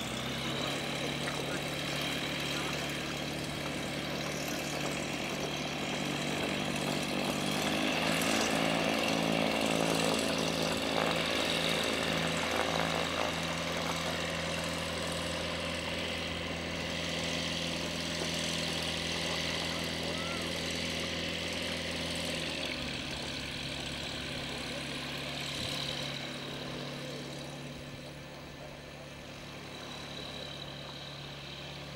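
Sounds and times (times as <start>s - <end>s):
light aircraft engine and propeller: 0.0s - 31.9s.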